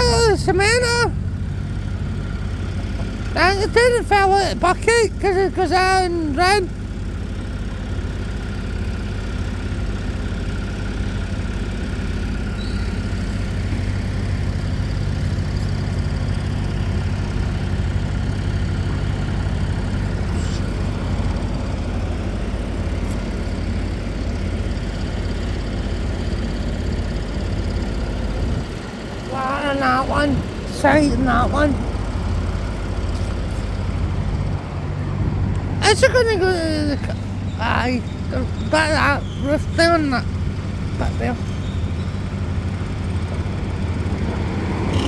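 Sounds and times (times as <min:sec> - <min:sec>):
large engine idling: 0:00.0 - 0:45.0.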